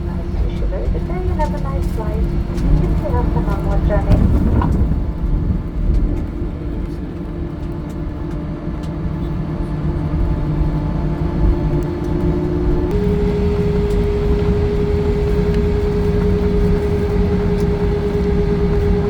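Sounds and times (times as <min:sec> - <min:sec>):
aircraft cabin rumble: 0:00.0 - 0:19.0
idling jet engine hum: 0:00.0 - 0:19.0.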